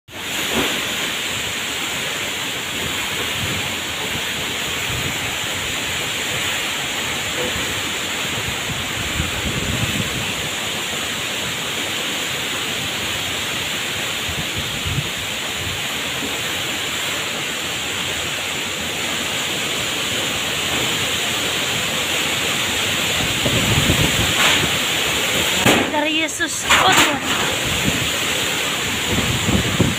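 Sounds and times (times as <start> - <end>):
heavy rain pouring: 0.1 - 29.9
strong wind through trees: 0.1 - 29.9.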